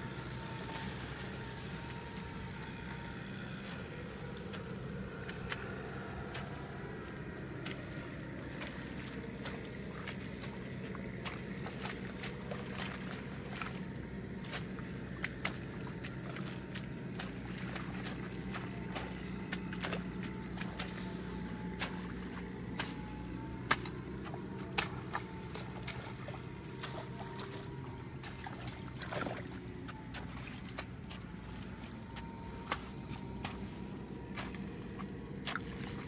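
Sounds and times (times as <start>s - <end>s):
steady low hum: 0.0s - 36.0s
water splashing and trickling: 0.0s - 36.0s.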